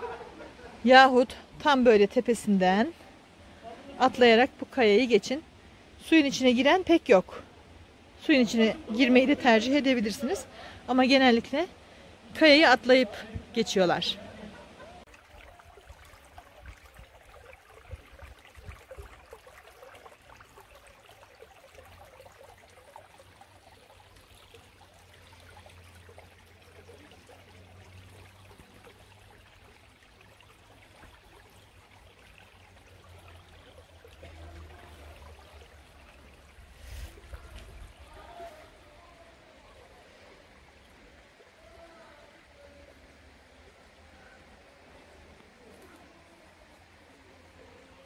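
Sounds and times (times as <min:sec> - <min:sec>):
creek flowing: 0:00.0 - 0:48.0.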